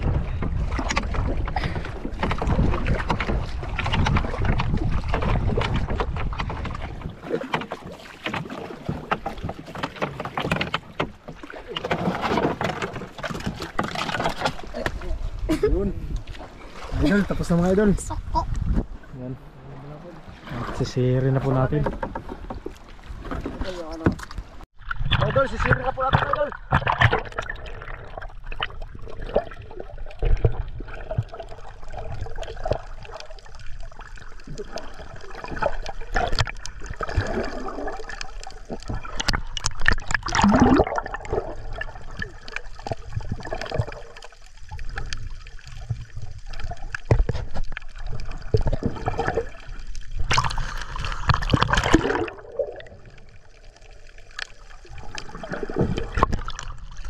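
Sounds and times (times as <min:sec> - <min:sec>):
water gurgling and splashing: 0:00.0 - 0:57.0.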